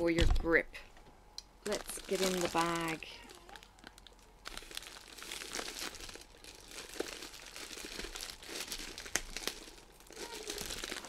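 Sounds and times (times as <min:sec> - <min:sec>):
plastic bag crinkling: 0:01.6 - 0:11.0.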